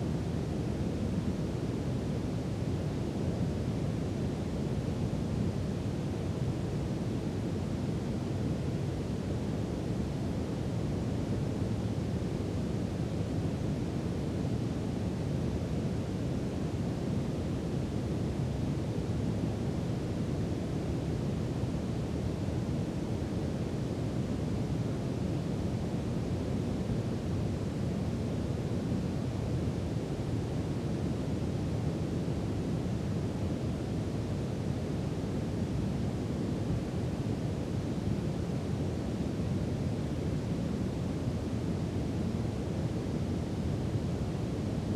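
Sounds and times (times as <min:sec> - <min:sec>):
brown noise hiss: 0:00.0 - 0:44.9.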